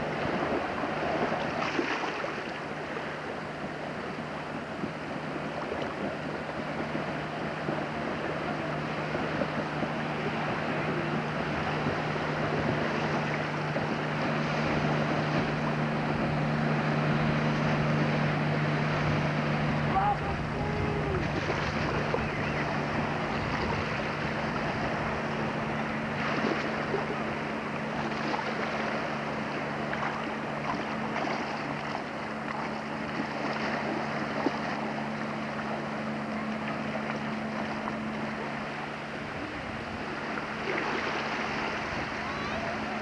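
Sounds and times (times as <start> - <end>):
distant motorboat drone: 0.0 - 43.0
wind and water hiss: 0.0 - 43.0.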